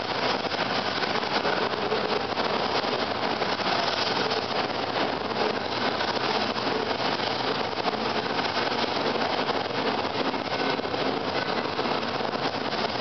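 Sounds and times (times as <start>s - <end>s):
trolley car rumbling and rattling: 0.0s - 13.0s.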